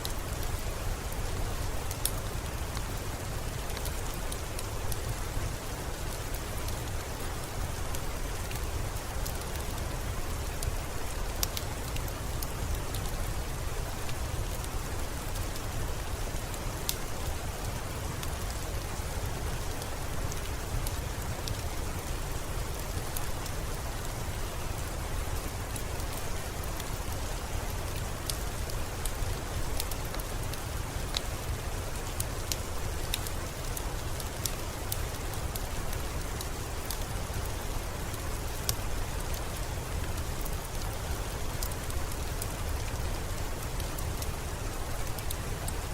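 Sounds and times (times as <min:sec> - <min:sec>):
steady rain: 0:00.0 - 0:45.9
wood fire crackling: 0:00.0 - 0:45.9.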